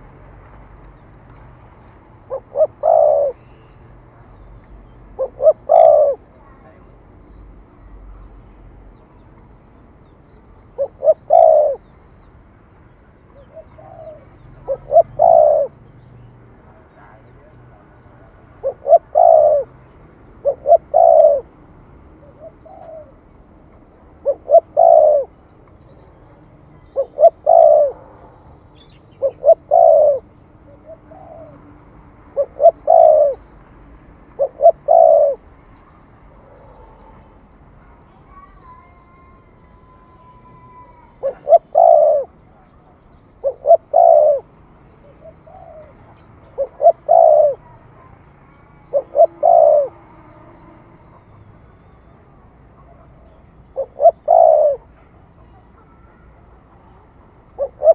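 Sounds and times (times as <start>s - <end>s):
dove cooing: 2.2s - 4.3s, 5.1s - 6.9s, 10.6s - 12.0s, 13.3s - 21.5s, 22.2s - 23.5s, 24.1s - 25.5s, 26.1s - 31.6s, 32.3s - 48.2s, 48.8s - 57.9s.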